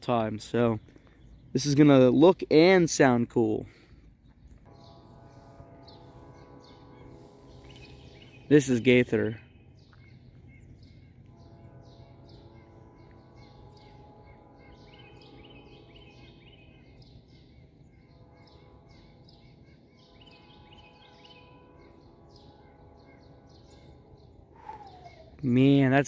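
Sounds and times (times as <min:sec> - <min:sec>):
songbirds chirping: 0:00.0 - 0:26.0
distant locomotive air horn: 0:02.8 - 0:26.0.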